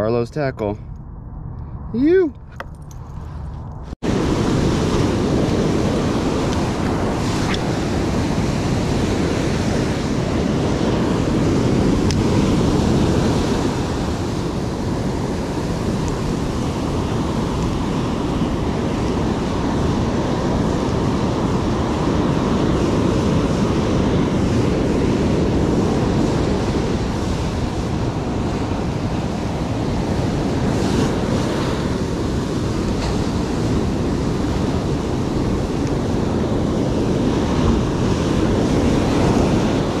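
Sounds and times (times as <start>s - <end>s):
wind buffeting microphone: 0.0s - 40.0s
surf breaking on beach: 4.0s - 40.0s.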